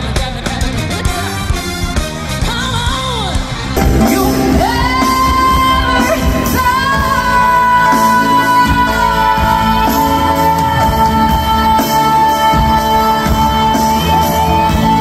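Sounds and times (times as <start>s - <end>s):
band playing: 0.0s - 15.0s
woman singing live: 2.4s - 15.0s.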